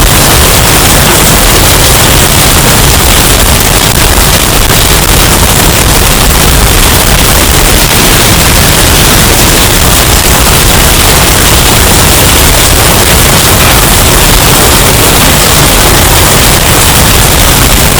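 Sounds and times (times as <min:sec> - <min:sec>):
distorted hurricane wind: 0:00.0 - 0:17.9.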